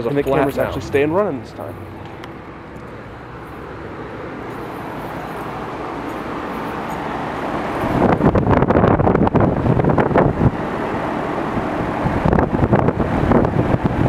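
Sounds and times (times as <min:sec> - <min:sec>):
mechanical hum and rushing: 0:00.0 - 0:14.0
wind buffeting microphone: 0:01.8 - 0:14.0.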